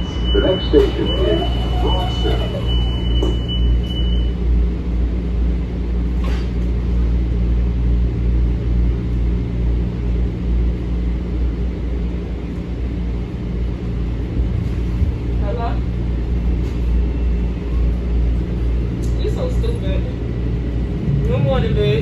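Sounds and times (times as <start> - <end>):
train car rumble and hum: 0.0 - 22.0.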